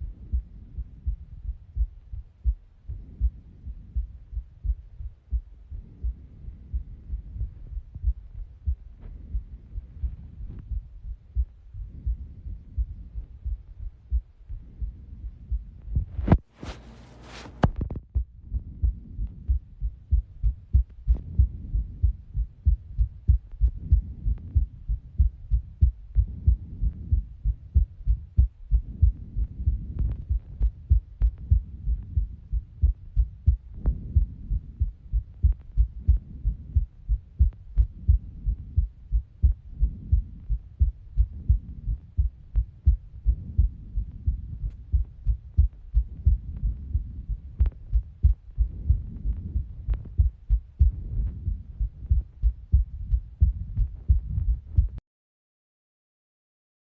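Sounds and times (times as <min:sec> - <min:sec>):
human heartbeat: 0:00.0 - 0:55.0.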